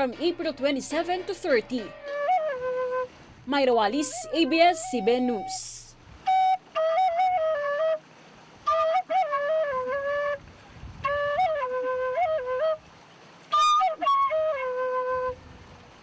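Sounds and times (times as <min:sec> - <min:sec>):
bamboo flute melody: 0:00.0 - 0:16.0.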